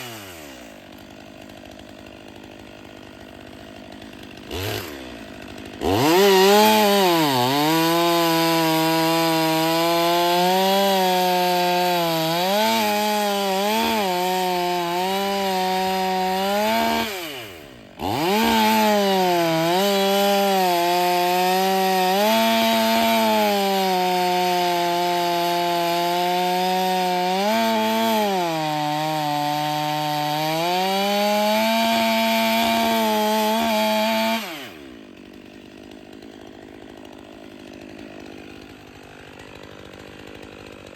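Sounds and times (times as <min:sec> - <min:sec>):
chainsaw cutting firewood: 0:00.0 - 0:40.9.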